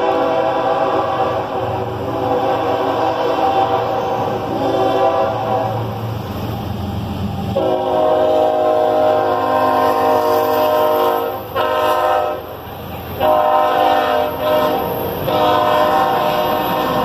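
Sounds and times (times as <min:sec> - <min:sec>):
locomotive air horn blasts: 0:00.0 - 0:06.0, 0:07.6 - 0:12.6, 0:13.2 - 0:17.0.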